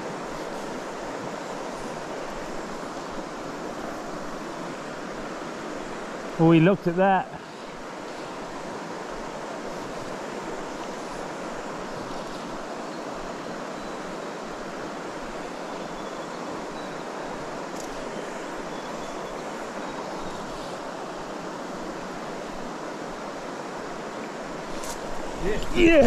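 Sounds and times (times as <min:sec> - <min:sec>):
river flowing over stones: 0:00.0 - 0:26.0.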